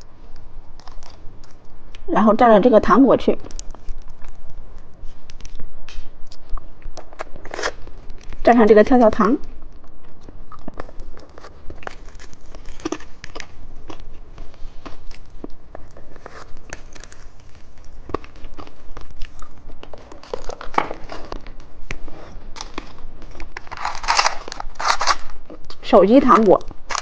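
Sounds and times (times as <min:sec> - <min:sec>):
popping candy crackling: 0:03.3 - 0:21.7, 0:22.5 - 0:27.0.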